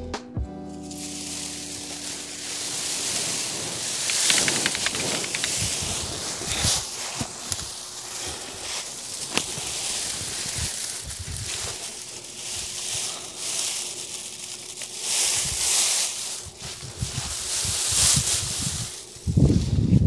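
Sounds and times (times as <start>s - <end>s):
dry grass rustling and crackling: 0.7s - 20.0s.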